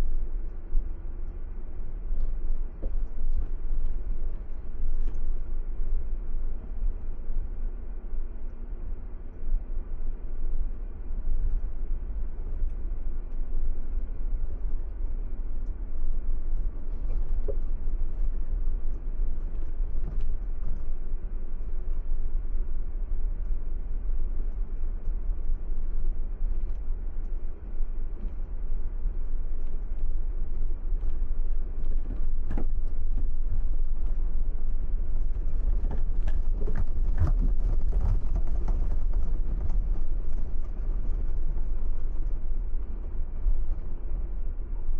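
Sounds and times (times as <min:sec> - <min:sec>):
rumble of tyres and engine: 0:00.0 - 0:44.9.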